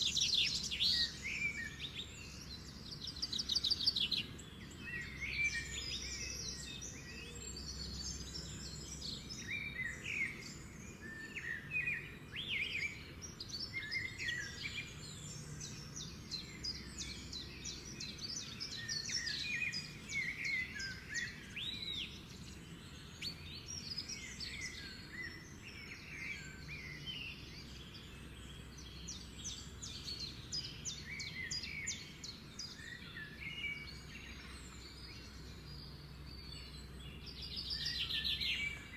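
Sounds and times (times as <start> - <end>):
lovebirds chirping and chattering: 0.0 - 38.9.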